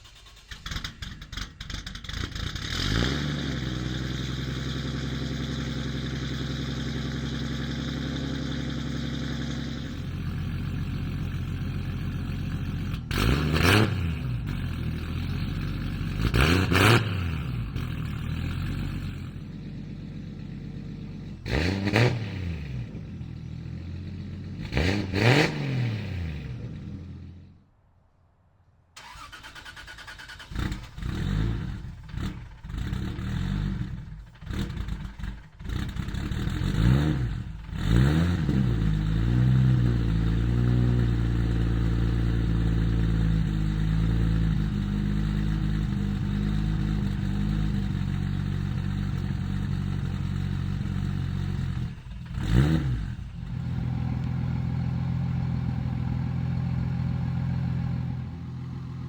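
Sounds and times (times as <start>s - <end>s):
car engine revving: 0.0s - 27.6s, 29.0s - 59.0s.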